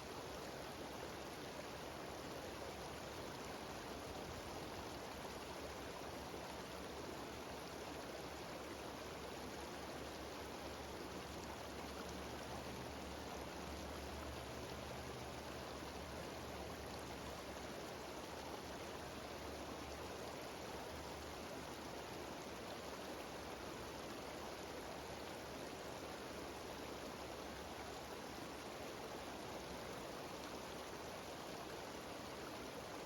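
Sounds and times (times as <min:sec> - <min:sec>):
stream and waterfall rushing: 0:00.0 - 0:33.0.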